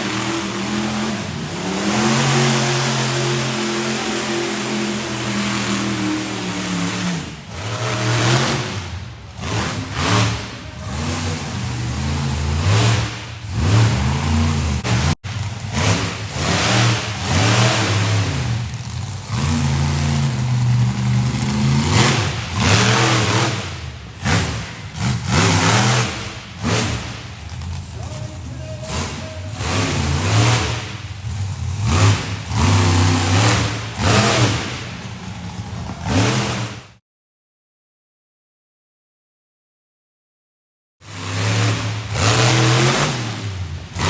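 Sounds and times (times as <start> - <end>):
monster truck engine revving: 0.0 - 37.0, 41.0 - 44.0.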